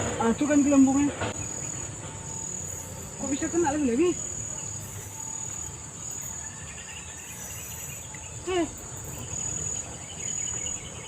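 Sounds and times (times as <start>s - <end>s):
high-pitched insect trilling: 1.4s - 10.8s.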